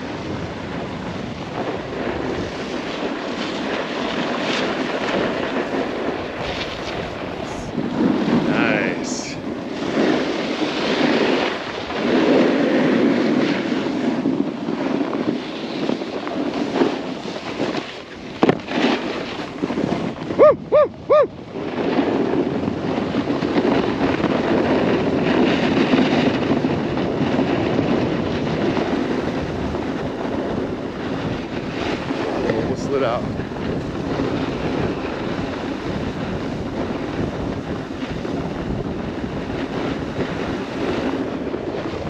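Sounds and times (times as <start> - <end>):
snowboard sliding over snow: 0.0 - 42.0
wind rushing across microphone: 0.0 - 42.0.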